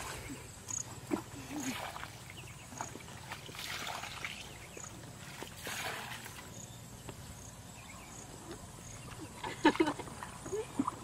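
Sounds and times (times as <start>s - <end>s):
footsteps wading through water and mud: 0.0s - 7.3s, 8.0s - 11.0s.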